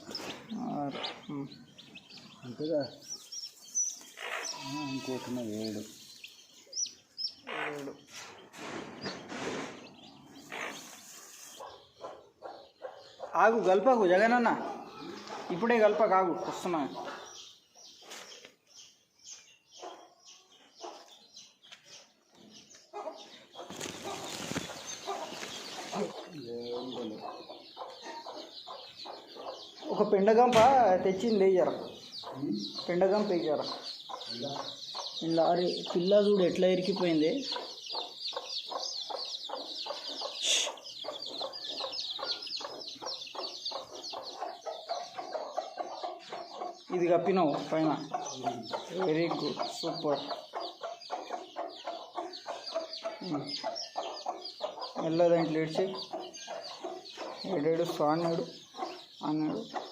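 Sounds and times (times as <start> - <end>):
chickens chirping and clucking: 0.0 - 59.9.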